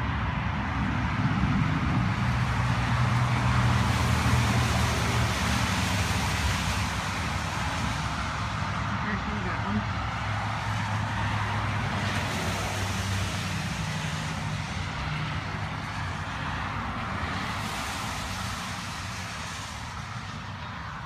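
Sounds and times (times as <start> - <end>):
vehicle rumble with low hum: 0.0 - 21.0.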